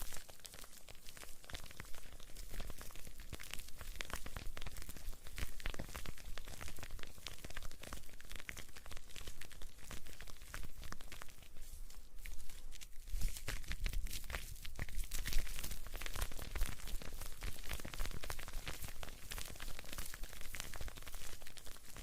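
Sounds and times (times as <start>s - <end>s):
crackling and rustling: 0.0s - 22.0s.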